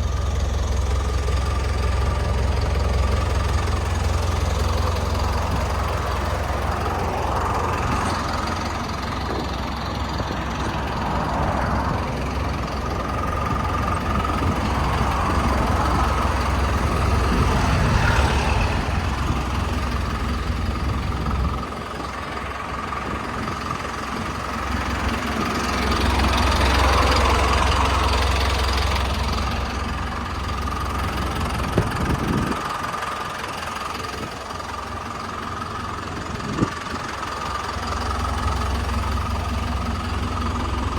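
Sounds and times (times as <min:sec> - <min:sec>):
truck idling diesel rumble: 0:00.0 - 0:40.9.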